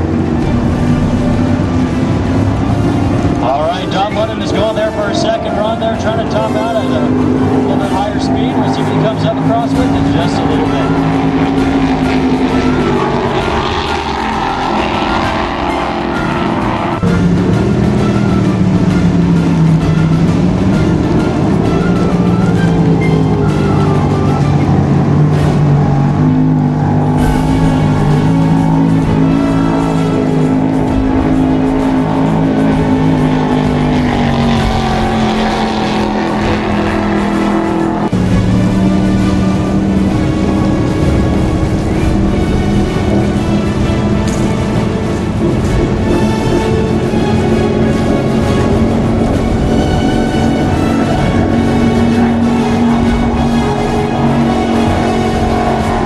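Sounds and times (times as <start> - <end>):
boat engine low steady: 0.0 - 56.0
powerboat engines passing: 0.0 - 56.0.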